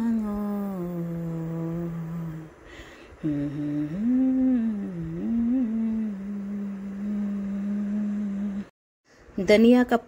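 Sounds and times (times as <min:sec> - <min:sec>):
woman humming: 0:00.0 - 0:02.6, 0:03.2 - 0:08.7.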